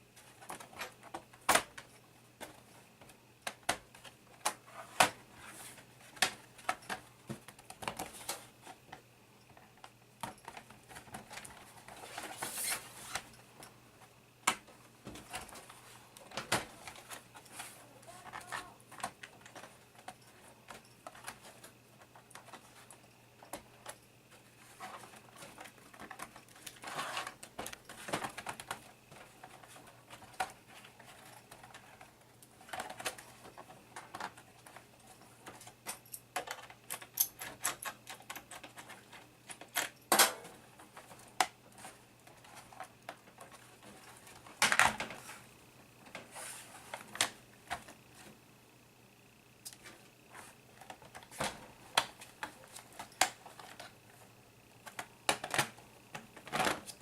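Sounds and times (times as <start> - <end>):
plastic laptop parts clattering: 0.2 - 13.7, 14.5 - 45.4, 49.7 - 57.0.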